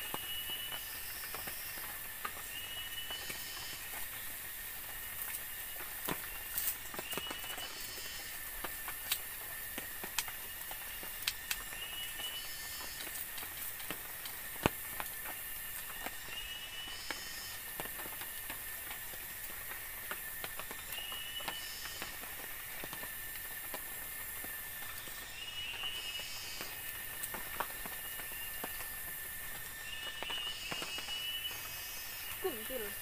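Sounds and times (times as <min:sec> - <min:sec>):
insect drone: 0:00.0 - 0:33.0.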